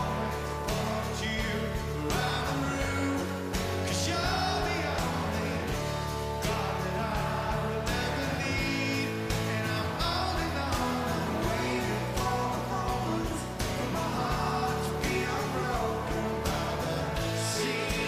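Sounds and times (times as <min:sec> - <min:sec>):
live rock band playing: 0:00.0 - 0:18.0
person singing: 0:00.0 - 0:18.0.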